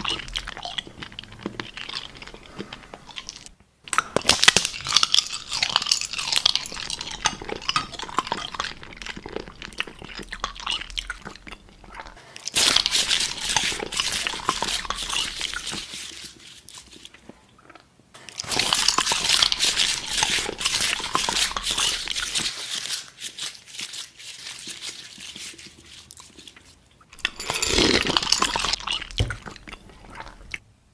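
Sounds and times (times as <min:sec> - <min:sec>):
chewing crunchy food: 0:00.0 - 0:30.6.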